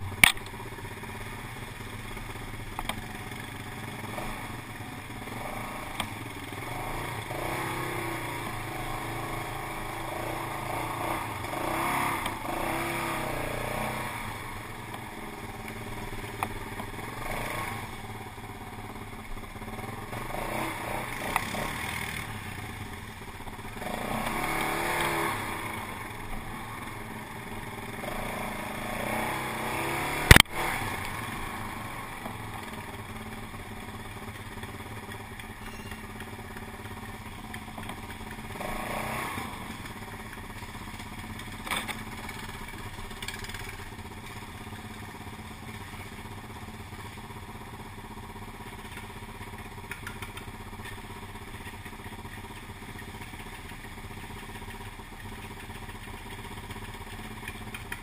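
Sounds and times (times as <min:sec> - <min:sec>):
quad bike engines running: 0:00.0 - 0:58.0.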